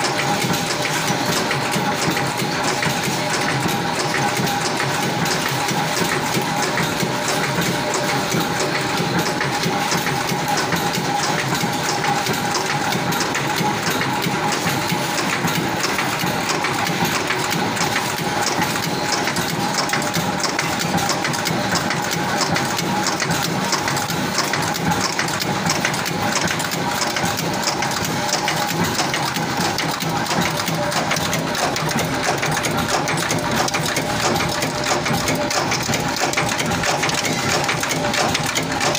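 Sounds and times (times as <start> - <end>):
fast mechanical clatter: 0.0 - 38.9.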